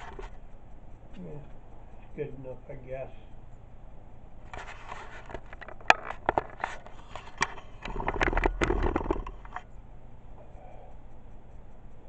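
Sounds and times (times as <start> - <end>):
quiet room hum: 0.0 - 12.0.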